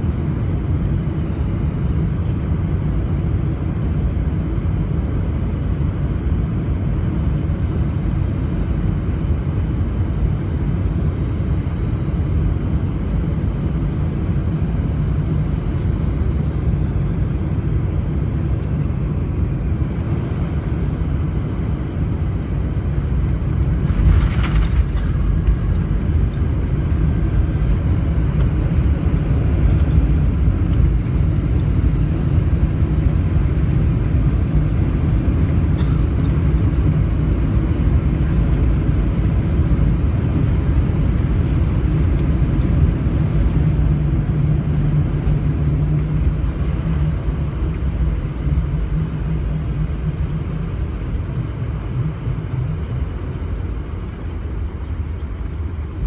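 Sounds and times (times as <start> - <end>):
low rumble of engines and runway: 0.0 - 56.0.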